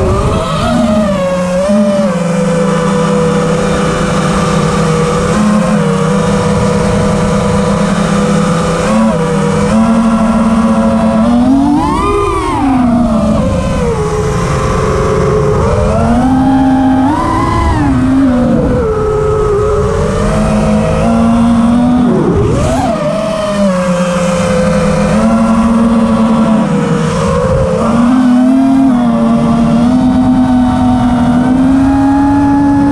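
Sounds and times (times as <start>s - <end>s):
drone motors and propellers whining: 0.0s - 32.9s.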